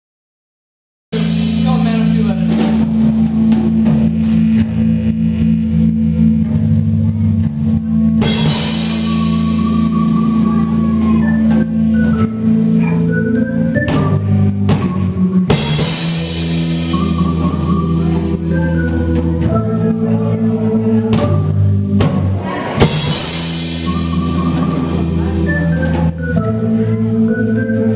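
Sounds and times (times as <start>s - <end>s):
live indie rock band: 1.2s - 19.9s, 20.5s - 27.9s.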